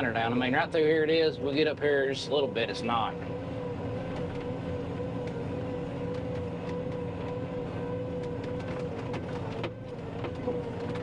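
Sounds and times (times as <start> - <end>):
combine engine drone with whine: 0.0 - 11.0.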